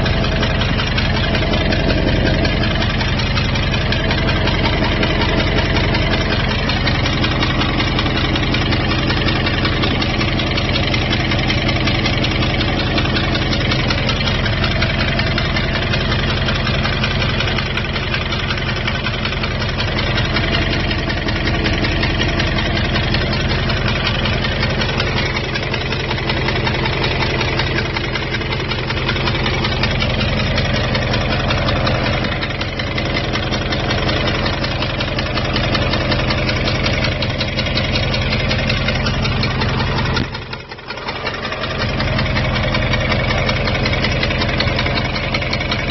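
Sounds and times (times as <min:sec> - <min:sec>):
engine idling with fast ticking: 0:00.0 - 0:45.9.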